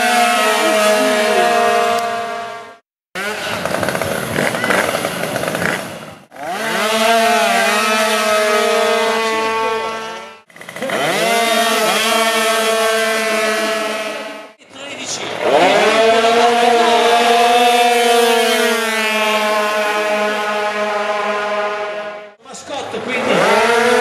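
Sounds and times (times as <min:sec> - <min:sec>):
two-stroke engines screaming: 0:00.0 - 0:24.0.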